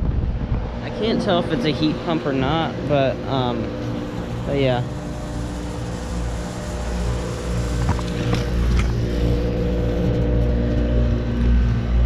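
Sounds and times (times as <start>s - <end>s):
compressor hum with steady tones: 0.0s - 12.0s
low rush of condenser fan: 0.0s - 12.0s.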